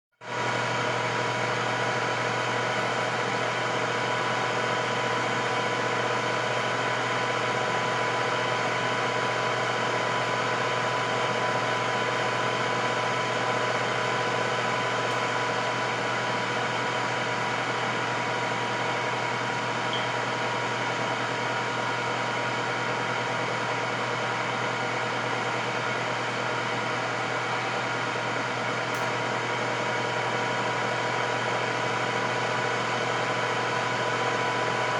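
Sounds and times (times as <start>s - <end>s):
air fryer fan hum: 0.2s - 34.9s.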